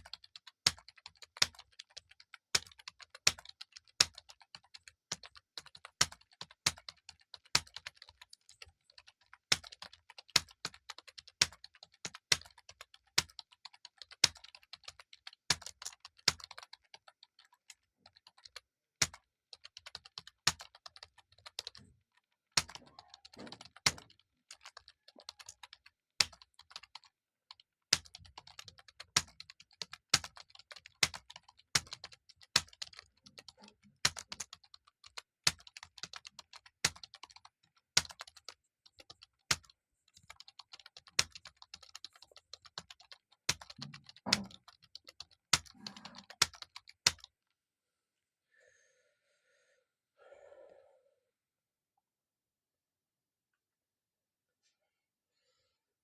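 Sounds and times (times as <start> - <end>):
typing on computer keyboard: 0.0 - 47.4.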